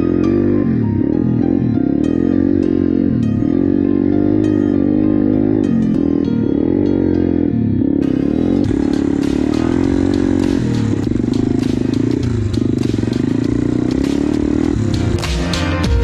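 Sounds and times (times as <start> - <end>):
dirt bike engine revving: 0.0 - 15.7.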